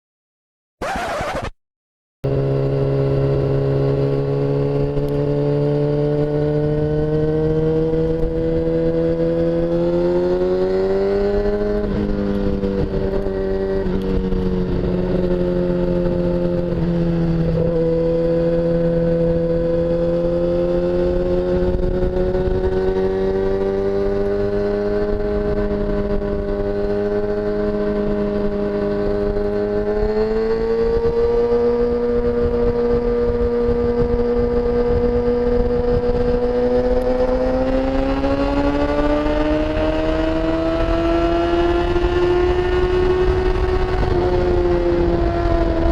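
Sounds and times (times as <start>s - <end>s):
motorcycle engine running: 2.2s - 45.9s.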